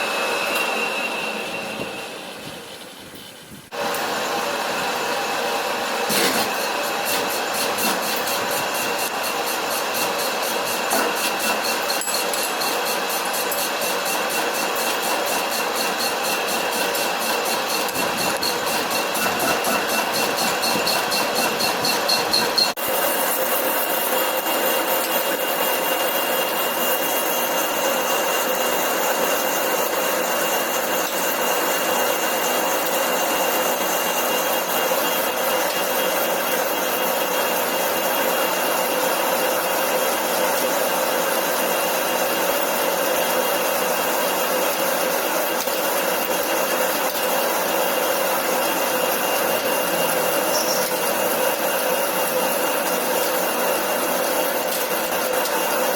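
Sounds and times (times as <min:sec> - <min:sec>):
lathe cutting rasping noise: 0:03.8 - 0:55.9.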